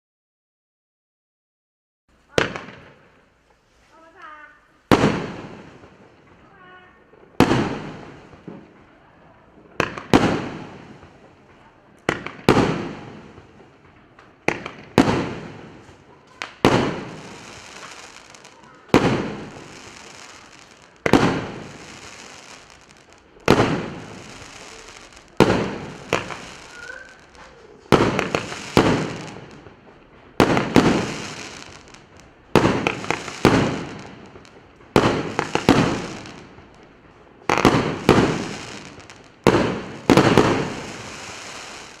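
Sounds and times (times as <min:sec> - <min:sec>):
firework bangs: 0:02.3 - 0:42.0.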